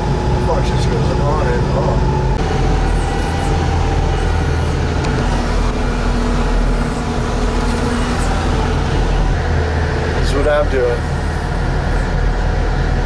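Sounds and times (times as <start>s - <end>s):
snow vehicle engine drone: 0.0s - 13.0s.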